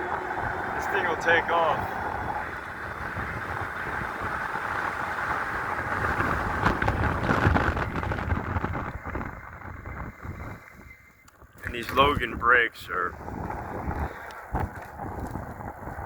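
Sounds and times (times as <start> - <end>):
low road rumble: 0.0 - 16.0
wind buffeting microphone: 0.0 - 16.0.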